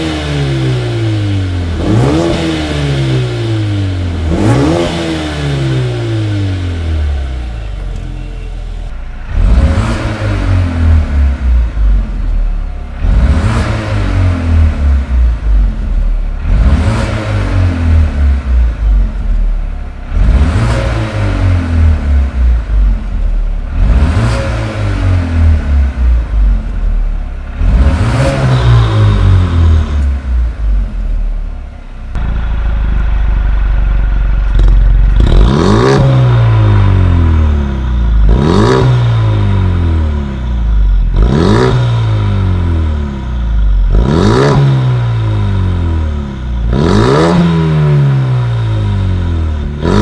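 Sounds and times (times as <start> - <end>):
car engine revving: 0.0 - 8.2, 8.8 - 50.0
car engine idling: 0.0 - 50.0.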